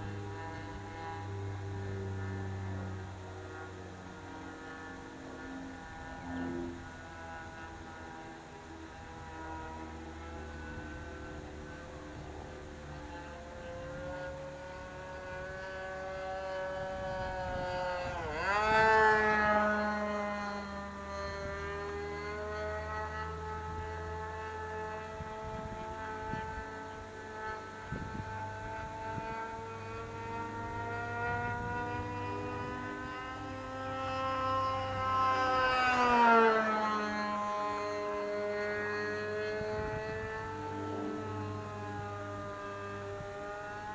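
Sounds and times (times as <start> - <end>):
model plane engine high-pitched: 0.0 - 43.9.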